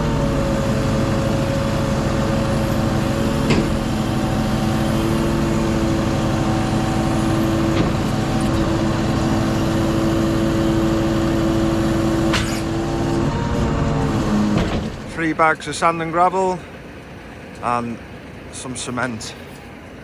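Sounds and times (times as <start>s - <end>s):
diesel lorry engine running: 0.0s - 20.0s.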